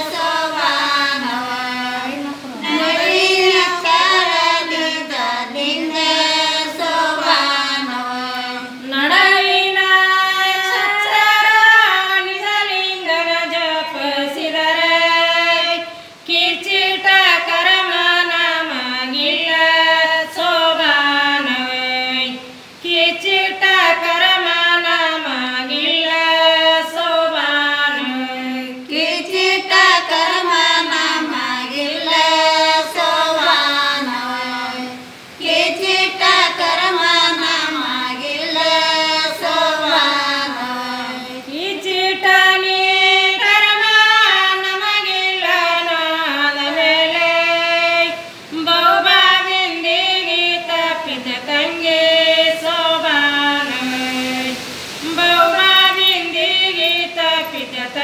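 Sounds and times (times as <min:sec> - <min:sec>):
women singing folk song: 0:00.0 - 0:58.0.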